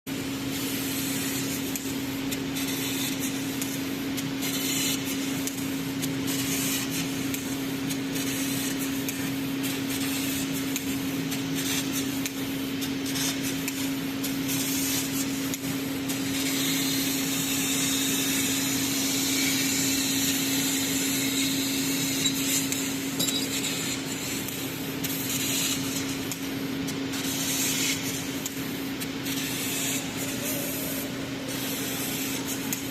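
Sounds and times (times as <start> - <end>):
crackling of laser cutting metal: 0.2 - 32.9.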